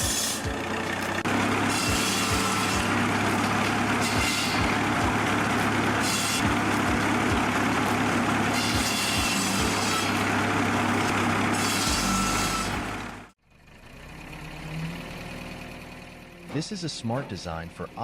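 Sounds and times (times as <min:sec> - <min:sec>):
machine hum: 0:00.0 - 0:16.7
large old engine running: 0:00.0 - 0:18.0.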